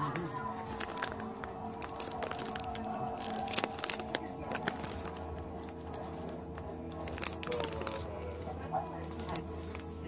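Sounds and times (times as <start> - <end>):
plastic bags crinkling: 0.5 - 10.0.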